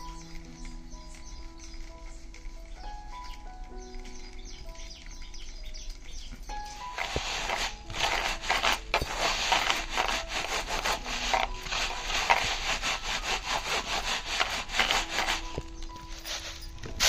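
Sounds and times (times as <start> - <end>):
grains scrubbed on bamboo tray: 0.0 - 17.0.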